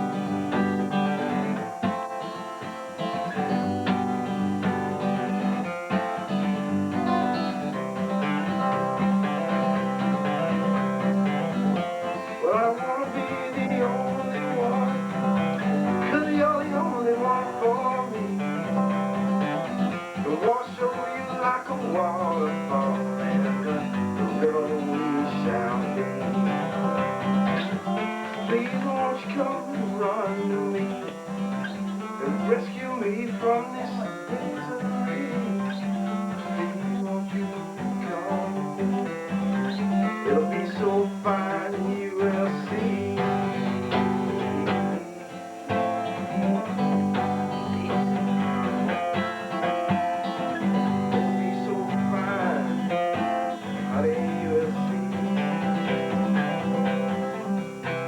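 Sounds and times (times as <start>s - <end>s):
guitar plucked notes: 0.0s - 58.0s.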